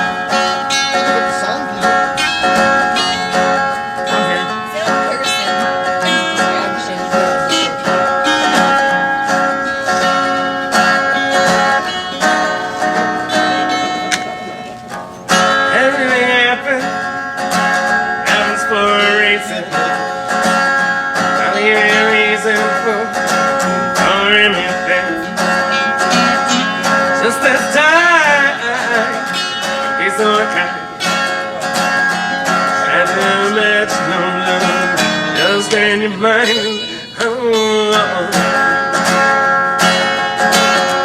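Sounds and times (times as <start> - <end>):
acoustic guitars strumming: 0.0 - 41.0
wavering lead melody: 0.0 - 41.0.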